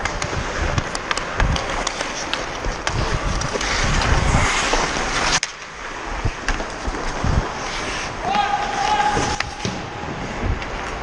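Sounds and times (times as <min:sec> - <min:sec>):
wind rushing over microphone: 0:00.0 - 0:01.9, 0:02.5 - 0:05.1, 0:06.0 - 0:11.0
skate blades scraping ice: 0:00.0 - 0:11.0.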